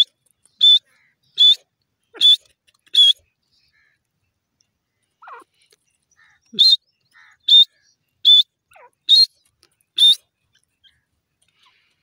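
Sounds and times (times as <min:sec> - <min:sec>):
bird calling sharp notes: 0:00.0 - 0:04.0, 0:05.0 - 0:11.9.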